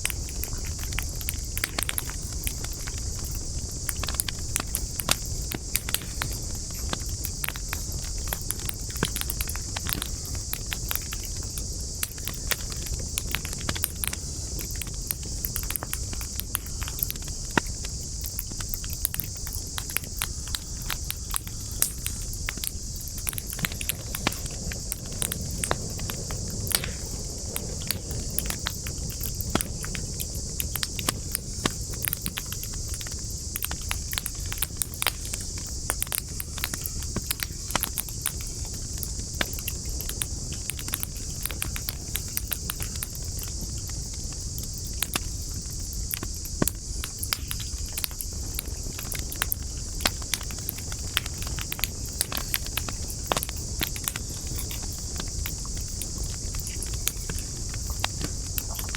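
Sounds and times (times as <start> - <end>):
campfire crackling and popping: 0.0 - 58.9
insect chorus: 0.0 - 58.9
low rumble of flames: 0.0 - 58.9.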